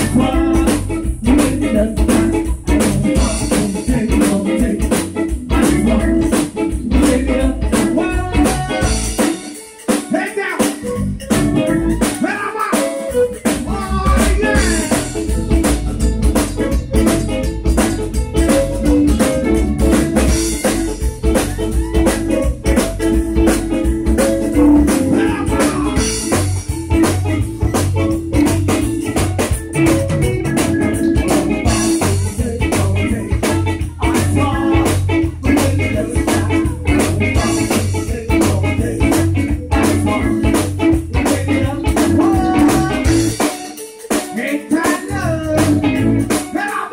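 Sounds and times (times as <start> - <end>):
bass: 0.0 - 46.9
button accordion: 0.0 - 46.9
drum kit steady beat: 0.0 - 46.9
electric guitar: 0.0 - 46.9.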